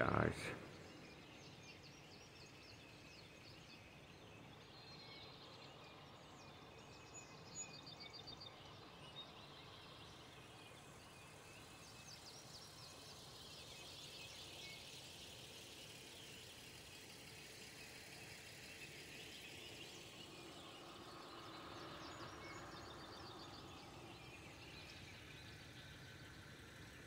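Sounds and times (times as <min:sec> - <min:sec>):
birds chirping and trilling: 0:00.0 - 0:27.0.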